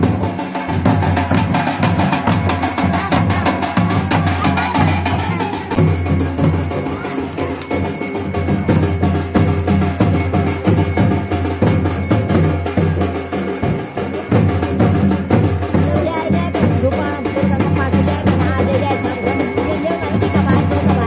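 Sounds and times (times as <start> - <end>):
barrel drum and kettle drum beating: 0.0 - 21.0.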